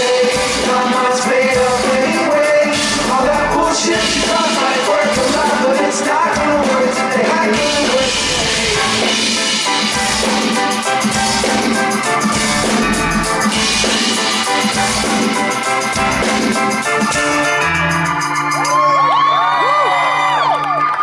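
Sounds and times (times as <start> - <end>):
drum kit beat: 0.0 - 19.8
amplified band music: 0.0 - 21.0.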